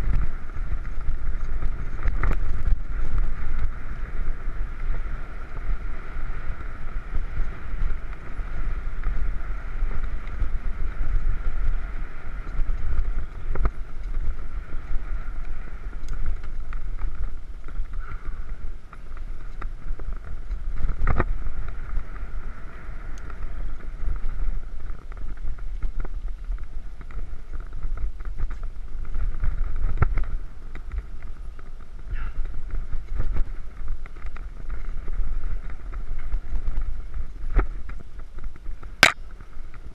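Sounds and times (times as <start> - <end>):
bike rattling over bumps: 0.0 - 39.9
tyre noise on dirt: 0.0 - 39.9
wind buffeting microphone: 0.0 - 39.9.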